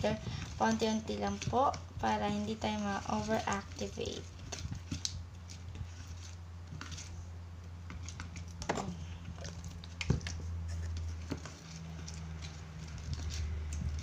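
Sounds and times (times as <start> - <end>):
slime squelching: 0.0 - 14.0
steady low hum: 0.0 - 14.0.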